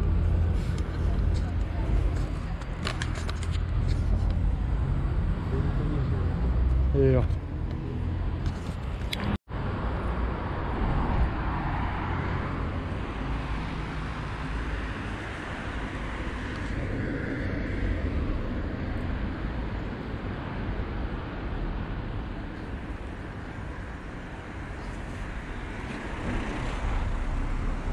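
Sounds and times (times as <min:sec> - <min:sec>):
cars passing by: 0:00.0 - 0:27.9
low traffic rumble: 0:00.0 - 0:27.9.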